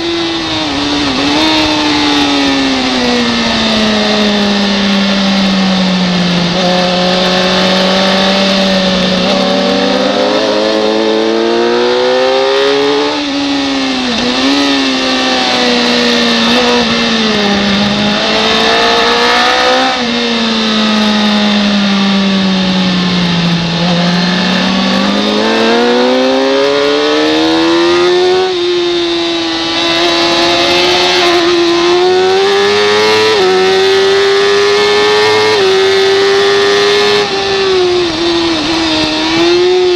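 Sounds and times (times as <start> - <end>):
racing motorcycle engine revving: 0.0 - 39.9
wind noise: 0.0 - 39.9.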